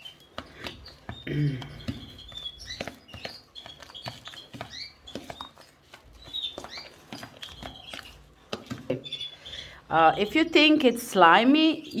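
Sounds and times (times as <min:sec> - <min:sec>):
spoon stirring in a bowl: 0:00.0 - 0:11.0.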